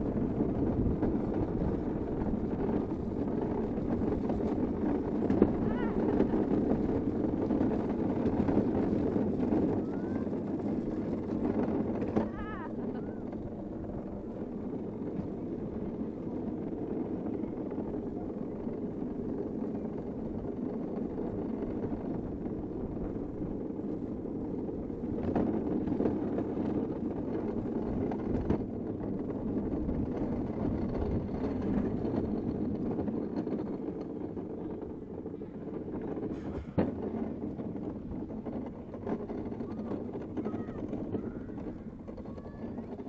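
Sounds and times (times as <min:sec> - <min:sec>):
wheels rolling on pavement: 0:00.0 - 0:43.0
wind: 0:00.0 - 0:43.0.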